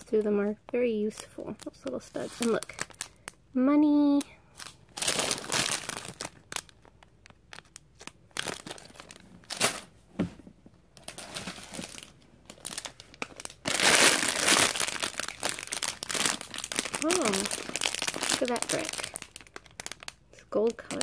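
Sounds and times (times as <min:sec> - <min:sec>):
plastic bags crinkling: 0:00.0 - 0:03.5, 0:04.1 - 0:10.0, 0:10.9 - 0:21.0.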